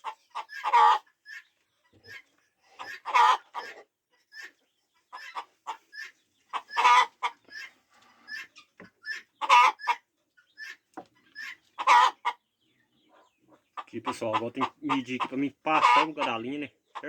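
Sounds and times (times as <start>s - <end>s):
chicken clucking: 0.0s - 17.0s.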